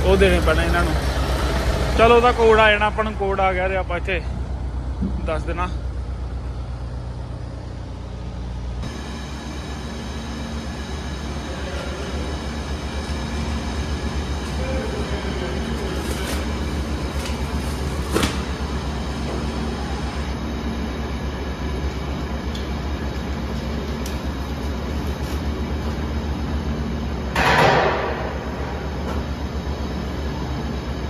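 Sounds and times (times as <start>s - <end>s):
low engine-like hum: 0.0s - 31.0s
machinery hum: 0.0s - 31.0s.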